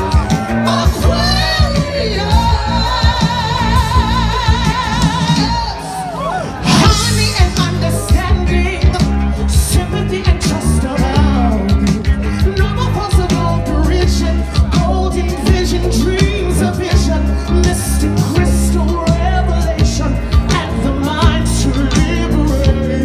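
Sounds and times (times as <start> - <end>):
person singing through a pa: 0.0 - 6.0, 6.7 - 23.0
amplified music with heavy bass: 0.0 - 23.0.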